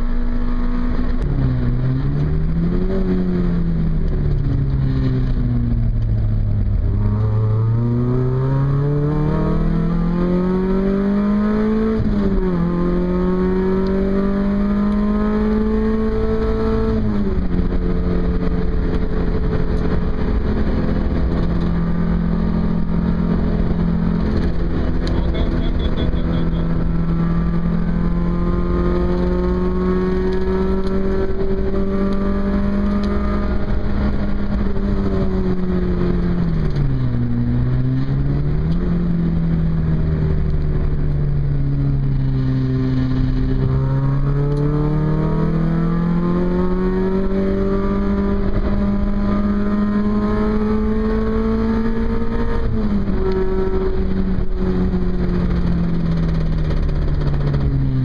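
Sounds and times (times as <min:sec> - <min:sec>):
car engine from inside cabin: 0:00.0 - 0:58.0
road and wind noise: 0:00.0 - 0:58.0.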